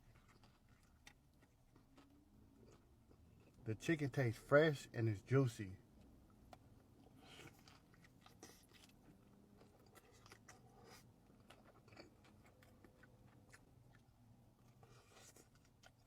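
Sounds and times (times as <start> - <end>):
person chewing food: 0.0 - 3.6, 5.9 - 16.0.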